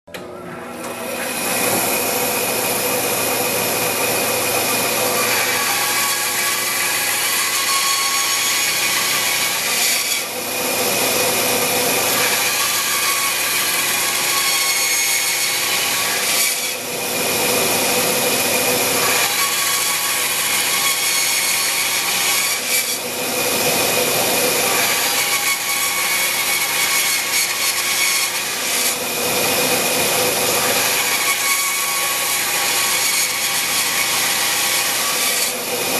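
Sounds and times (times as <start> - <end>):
band saw cutting wood: 0.1 - 35.9.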